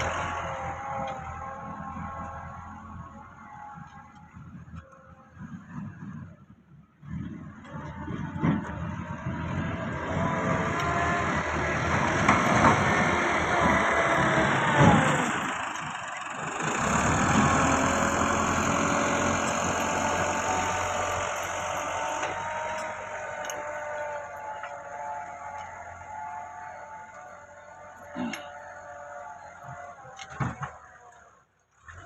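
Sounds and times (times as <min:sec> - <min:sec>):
tractor diesel engine working: 0:00.0 - 0:32.0.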